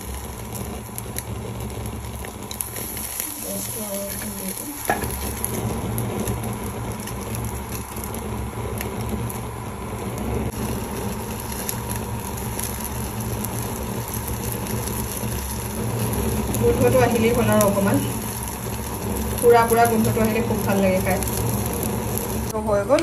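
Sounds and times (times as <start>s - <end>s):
fire crackling and popping: 0.0s - 23.0s
steady low hum: 0.0s - 23.0s.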